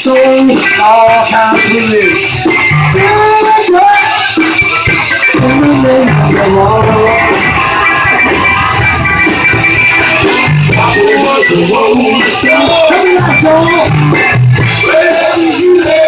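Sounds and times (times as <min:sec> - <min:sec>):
live band playing dance music: 0:00.0 - 0:16.0
person singing: 0:00.0 - 0:16.0.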